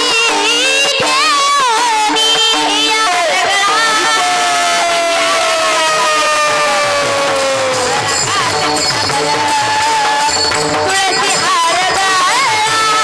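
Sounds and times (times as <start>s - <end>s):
woman singing devotional melody: 0.0s - 5.8s, 7.6s - 13.0s
rhythmic accompaniment: 0.0s - 13.0s.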